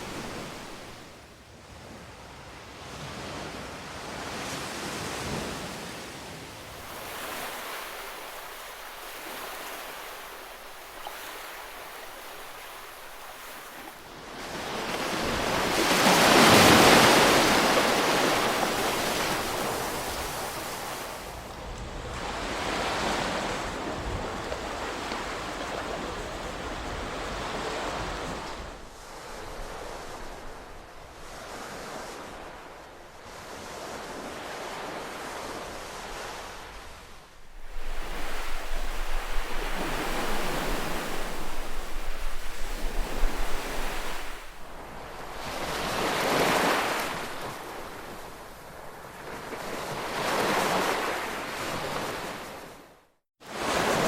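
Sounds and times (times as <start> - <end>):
ocean waves breaking: 0.0 - 1.2, 2.9 - 54.0.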